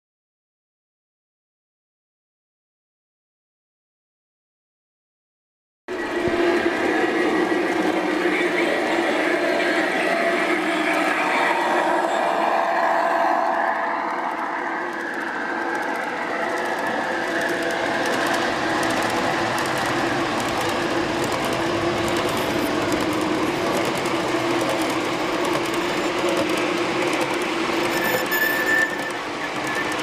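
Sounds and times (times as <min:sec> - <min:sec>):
model train wheels rolling on rails: 0:05.9 - 0:30.0.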